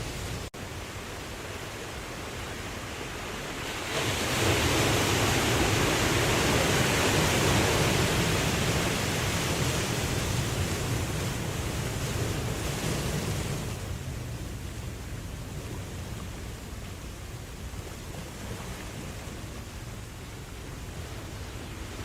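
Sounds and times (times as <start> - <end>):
ocean waves washing out: 0.0 - 22.0.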